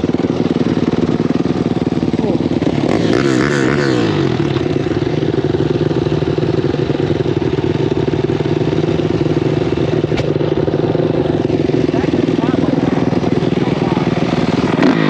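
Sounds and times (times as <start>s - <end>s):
off-road engine running steadily: 0.0s - 15.0s.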